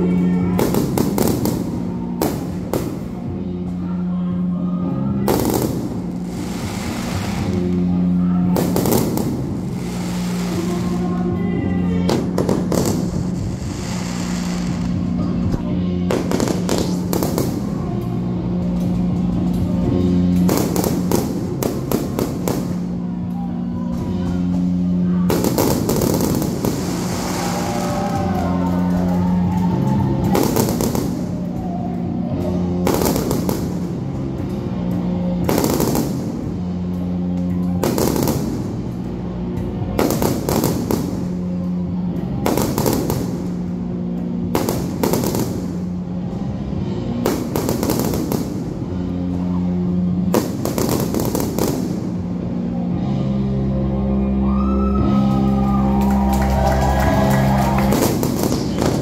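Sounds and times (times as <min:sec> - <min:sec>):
fireworks bursting and crackling: 0:00.0 - 0:03.8, 0:05.2 - 0:23.3, 0:24.5 - 0:52.6, 0:56.8 - 0:59.0.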